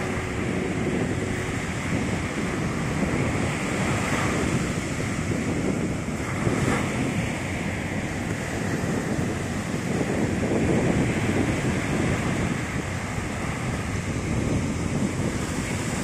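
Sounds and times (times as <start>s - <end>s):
surf washing up a beach: 0.0s - 16.0s
wind rumbling on microphone: 0.0s - 16.0s.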